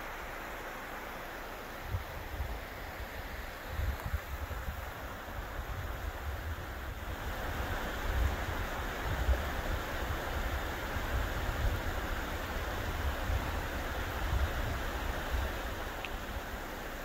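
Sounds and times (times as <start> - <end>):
river rushing over rocks: 0.0 - 17.0
wind rumble on microphone: 1.8 - 17.0.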